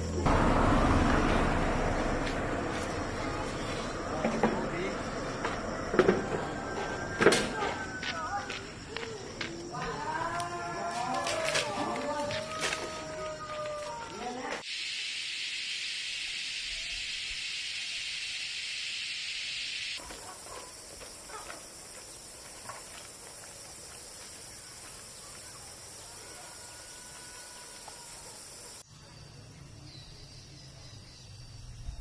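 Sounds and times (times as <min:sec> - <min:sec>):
outdoor hissing noise: 0:00.0 - 0:30.6.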